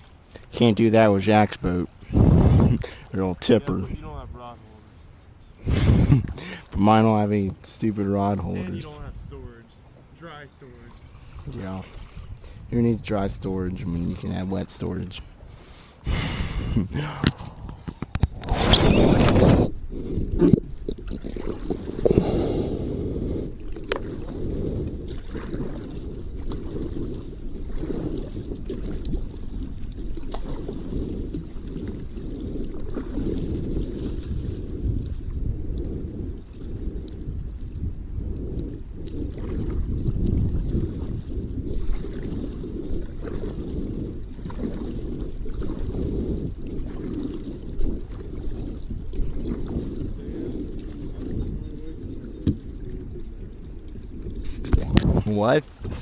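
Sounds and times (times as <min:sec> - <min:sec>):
water sloshing and gurgling: 0:00.0 - 0:56.0
wind rumble on microphone: 0:00.0 - 0:56.0.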